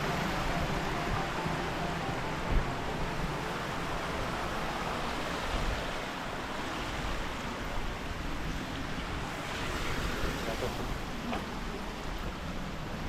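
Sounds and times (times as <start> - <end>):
river and waterfalls rushing: 0.0 - 13.0.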